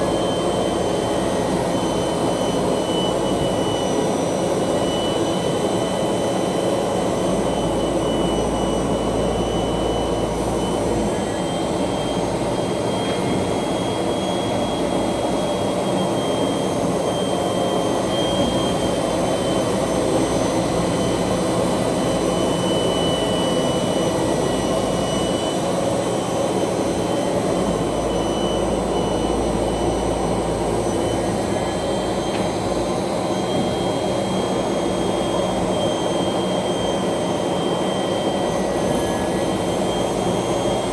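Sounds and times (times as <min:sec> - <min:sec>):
high machine whine: 0:00.0 - 0:40.9.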